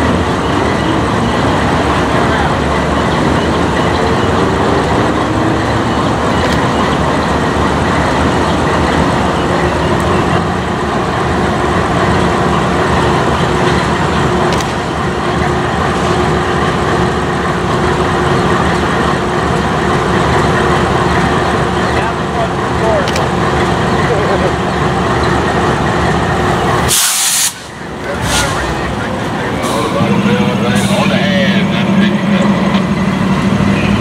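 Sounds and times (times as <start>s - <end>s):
diesel locomotive rumbling: 0.0s - 34.0s.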